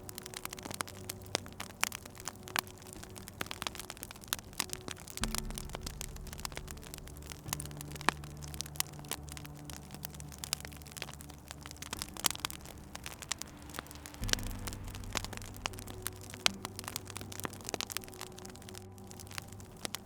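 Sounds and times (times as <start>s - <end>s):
low steady drone: 0.0s - 20.0s
wood fire crackling: 0.0s - 20.0s.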